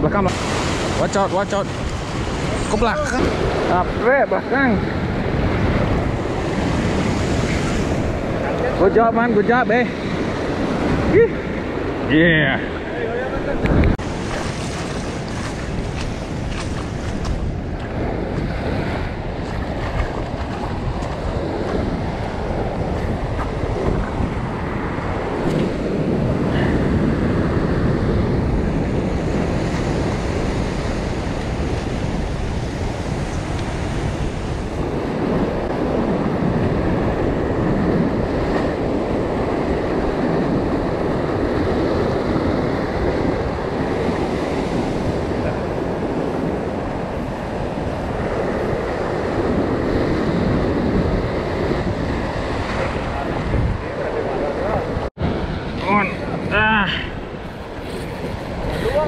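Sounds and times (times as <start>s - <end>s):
surf breaking over rocks: 0.0s - 59.0s
wind buffeting microphone: 0.0s - 59.0s.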